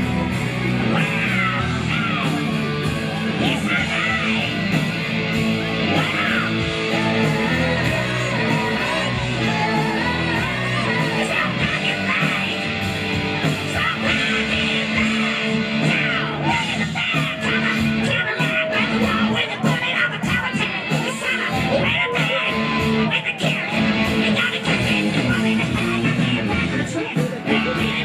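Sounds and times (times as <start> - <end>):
live band through loudspeakers: 0.0 - 28.0
person singing: 0.0 - 28.0.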